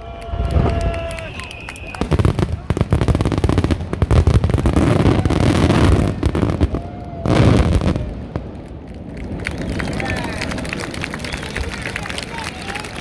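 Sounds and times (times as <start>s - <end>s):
fireworks crackling and booming: 0.0s - 13.0s.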